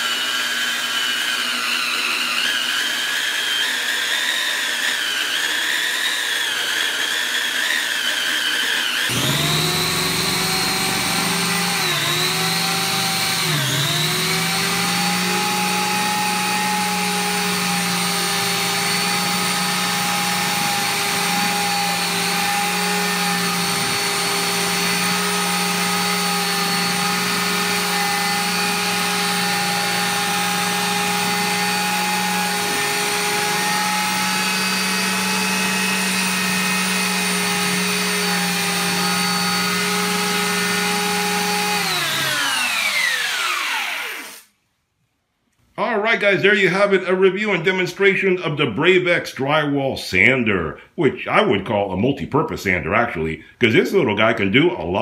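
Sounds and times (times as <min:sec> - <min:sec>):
electric drywall sander running: 0:00.0 - 0:44.5.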